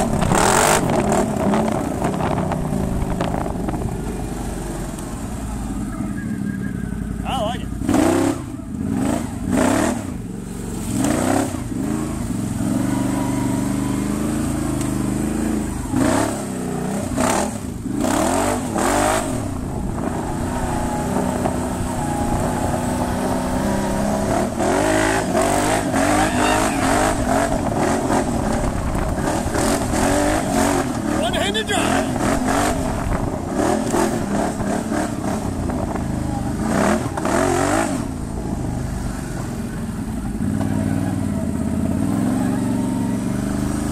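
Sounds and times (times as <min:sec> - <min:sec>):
atv engine revving: 0:00.0 - 0:43.9.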